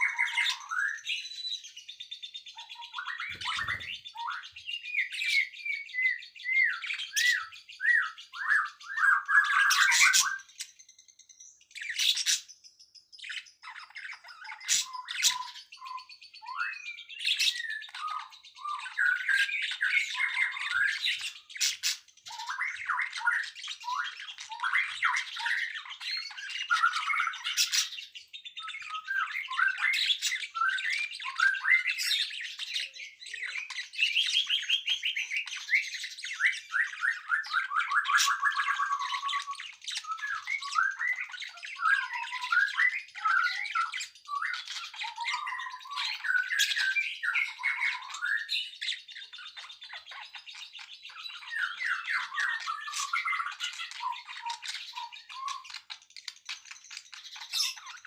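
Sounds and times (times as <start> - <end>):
harsh squawk-like bird notes: 0.0 - 10.8, 13.3 - 58.0
songbird chirps and trills: 0.0 - 58.0.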